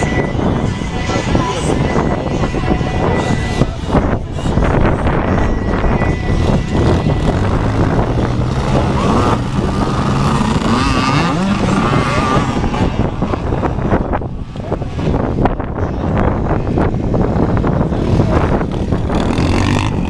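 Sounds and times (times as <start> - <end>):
motocross bike engines revving: 0.0 - 20.0
rough buffeting noise: 0.0 - 20.0.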